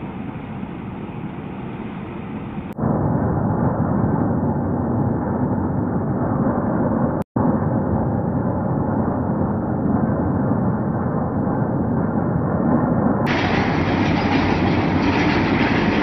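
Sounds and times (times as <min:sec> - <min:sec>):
deep rumbling noise: 0:00.0 - 0:16.0.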